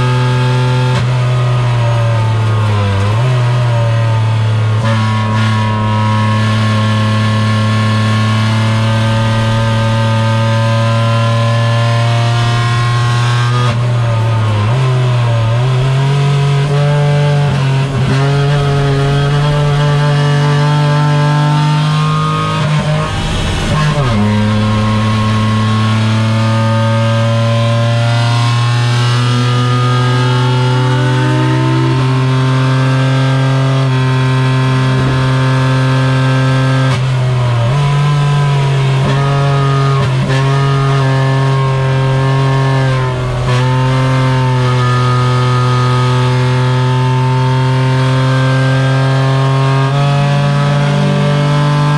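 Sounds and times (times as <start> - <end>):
car engine running hard: 0.0 - 51.9.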